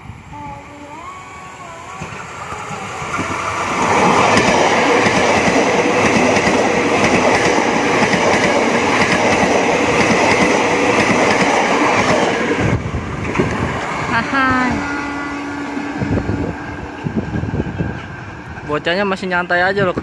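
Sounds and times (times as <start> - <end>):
high tone from passing train: 0.0 - 20.0.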